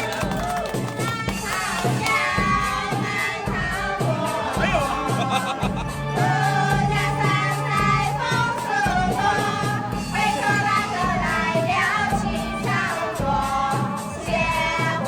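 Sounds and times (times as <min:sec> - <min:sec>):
music with singing voices: 0:00.0 - 0:15.0.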